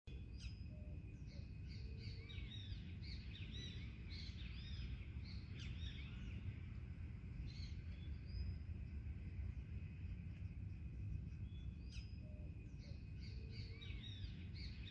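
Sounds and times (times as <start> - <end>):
birds chirping and singing: 0.1 - 14.9
low background rumble: 0.1 - 14.9.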